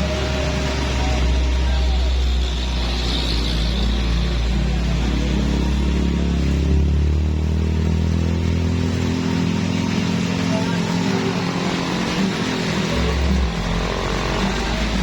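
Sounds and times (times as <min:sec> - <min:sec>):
heavy truck engine drone: 0:00.0 - 0:15.0.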